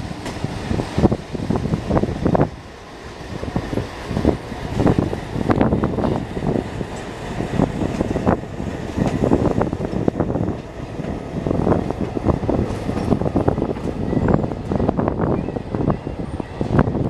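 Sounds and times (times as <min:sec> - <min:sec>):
train coaches rumbling on track: 0:00.0 - 0:17.0
wheels clanking over rail joints: 0:00.1 - 0:17.0.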